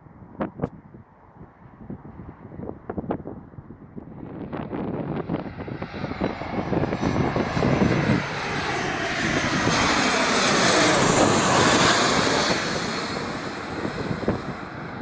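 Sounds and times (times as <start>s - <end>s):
jet passing low overhead: 1.2s - 15.0s.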